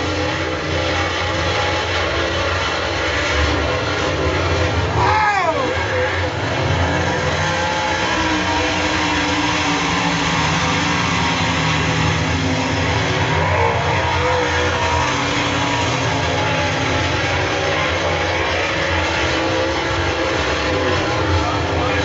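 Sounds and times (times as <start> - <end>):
race car engines roaring: 0.0 - 22.0.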